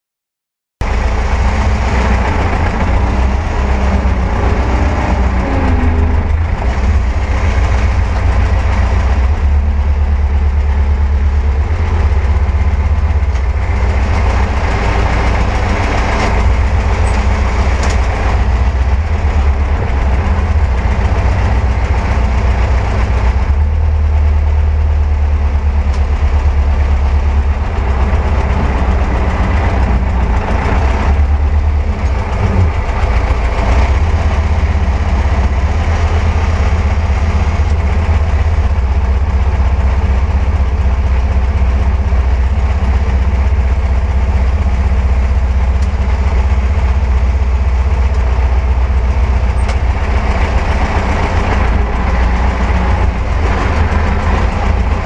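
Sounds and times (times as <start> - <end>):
diesel tractor engine running: 0.8 - 55.0.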